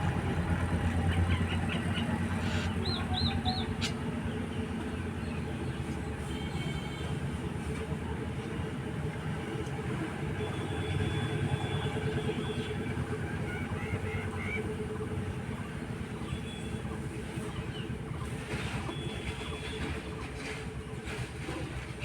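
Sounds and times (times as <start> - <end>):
low mechanical rumble: 0.0 - 22.0.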